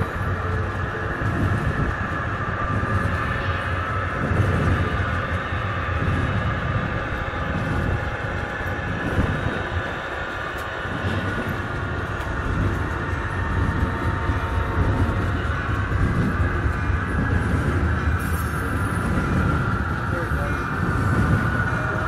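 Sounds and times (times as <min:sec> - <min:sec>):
model train wheels rumbling: 0:00.0 - 0:22.0.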